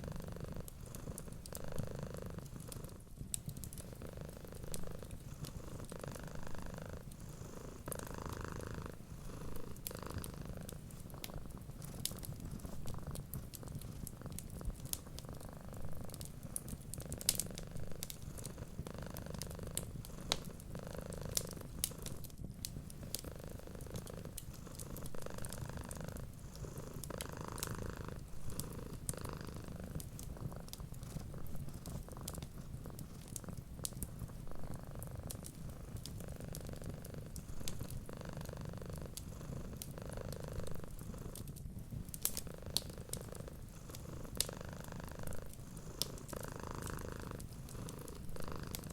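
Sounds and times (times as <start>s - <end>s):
cat purring: 0.0s - 48.9s
wood fire crackling: 2.4s - 7.2s, 9.4s - 48.9s.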